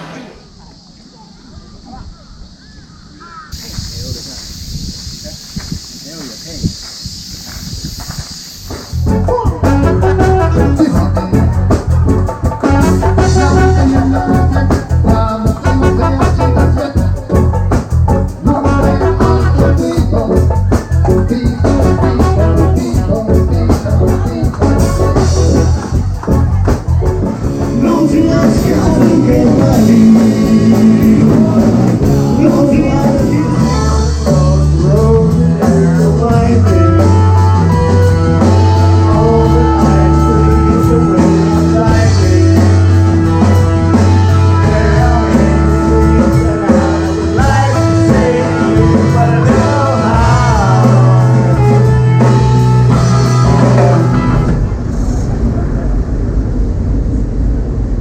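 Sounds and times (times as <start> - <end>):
background music with beat: 6.8 - 54.6.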